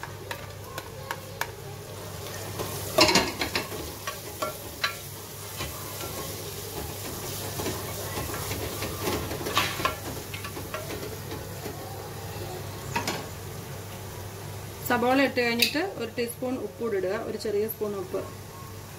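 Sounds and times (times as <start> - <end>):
onions sizzling in oil: 0.0 - 18.9.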